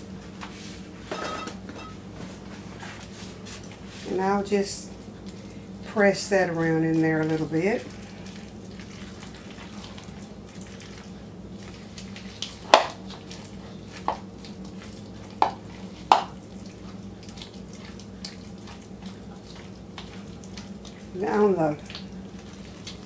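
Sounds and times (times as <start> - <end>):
wet mixing in a bowl: 2.4 - 23.0.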